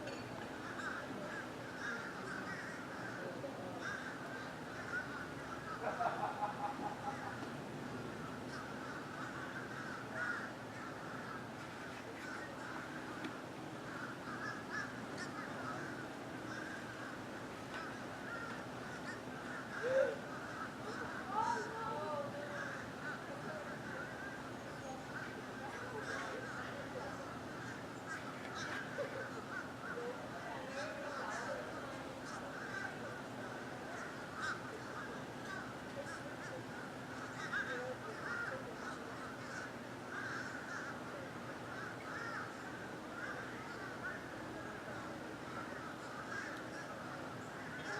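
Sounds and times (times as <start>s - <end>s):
flock of birds calling: 0.0s - 47.9s.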